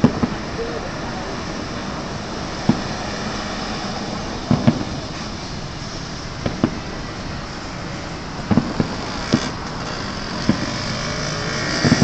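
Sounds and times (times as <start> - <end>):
distant fireworks bangs: 0.0 - 12.0
road traffic hum: 0.0 - 12.0.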